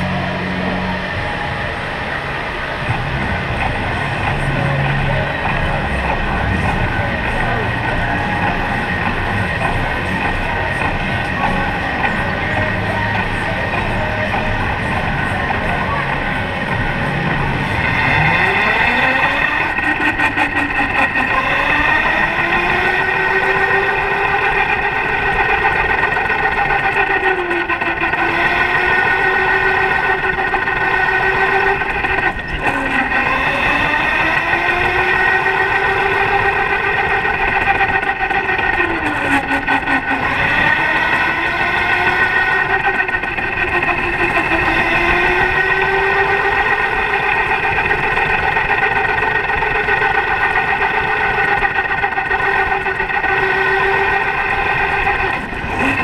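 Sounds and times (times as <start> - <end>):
electric motor whining: 0.0 - 56.0
steady higher hum: 0.0 - 56.0.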